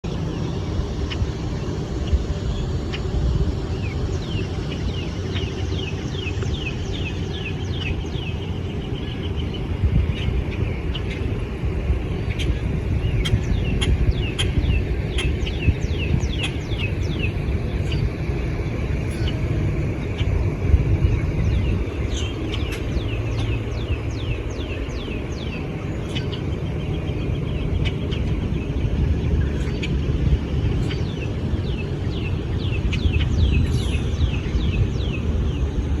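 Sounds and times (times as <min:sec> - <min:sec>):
birds chirping: 0:00.0 - 0:36.0
low outdoor rumble: 0:00.0 - 0:36.0.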